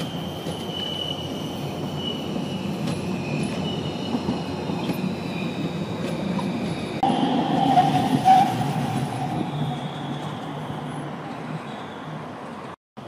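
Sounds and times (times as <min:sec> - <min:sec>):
high-pitched wheel squeal: 0:00.0 - 0:12.4
tram wheels rumbling on rail: 0:00.0 - 0:12.8.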